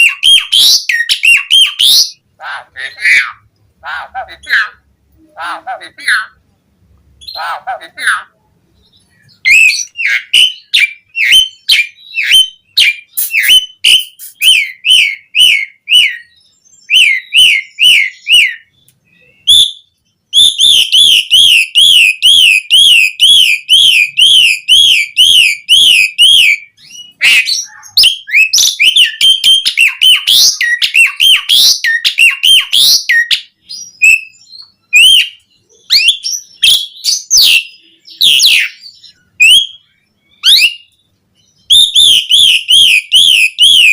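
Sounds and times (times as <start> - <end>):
starling singing: 0.0 - 6.5, 7.1 - 43.9.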